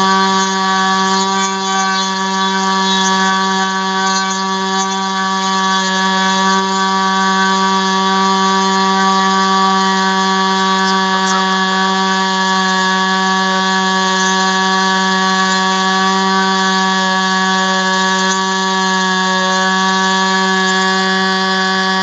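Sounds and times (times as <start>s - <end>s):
model aircraft engine drone: 0.0s - 22.0s.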